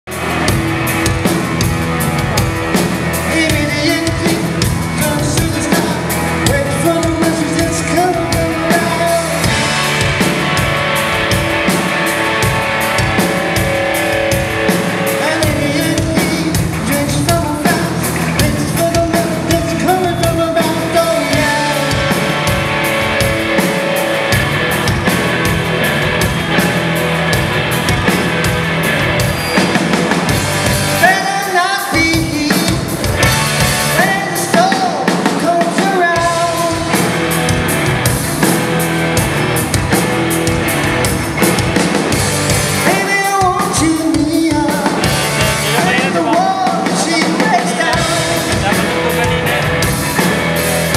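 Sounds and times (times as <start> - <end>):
bass guitar: 0.0 - 50.9
drum kit: 0.0 - 50.9
electric guitars: 0.0 - 50.9.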